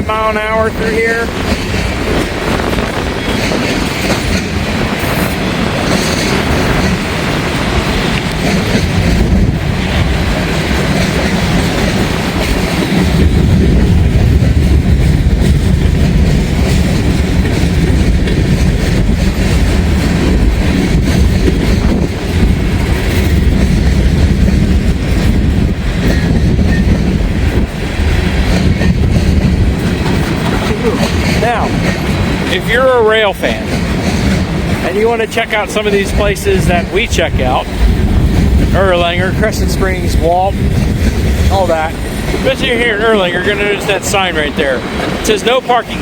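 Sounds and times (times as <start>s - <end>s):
freight train rolling past: 0.0s - 46.0s
steel wheels clacking on rail joints: 0.7s - 46.0s.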